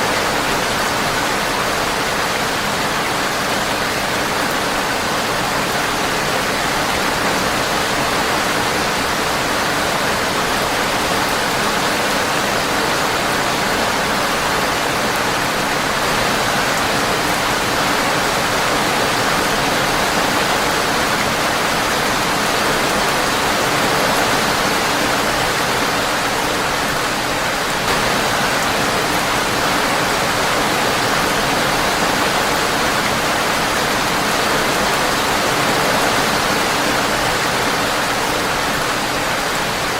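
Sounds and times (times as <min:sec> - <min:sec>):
rain on a windowpane: 0:00.0 - 0:39.9.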